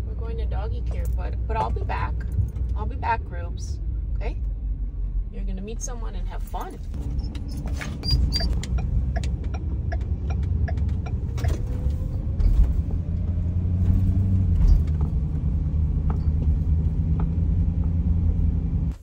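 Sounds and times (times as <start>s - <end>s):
van engine and road rumble: 0.0s - 19.0s.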